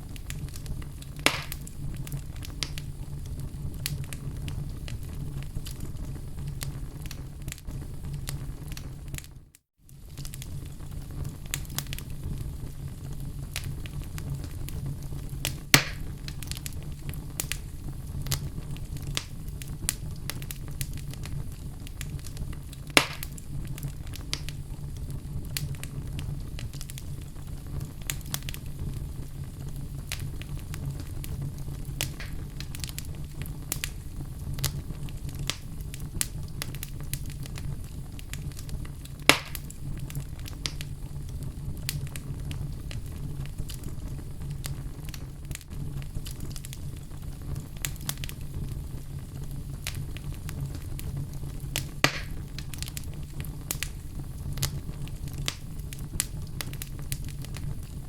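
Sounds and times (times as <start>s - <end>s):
fire crackling: 0.0s - 58.0s
loud pops of fire: 0.0s - 58.0s.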